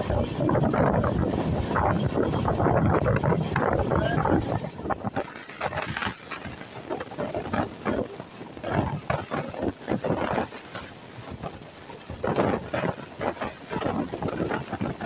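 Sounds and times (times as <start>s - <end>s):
train wheels rumbling on track: 0.0s - 15.0s
wind buffeting microphone: 0.0s - 15.0s.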